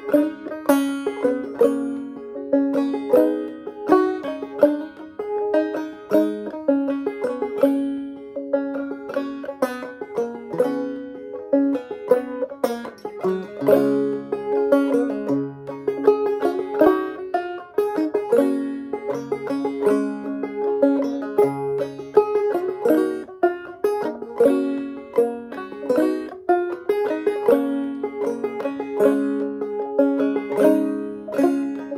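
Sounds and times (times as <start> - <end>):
banjo melody: 0.0 - 31.9.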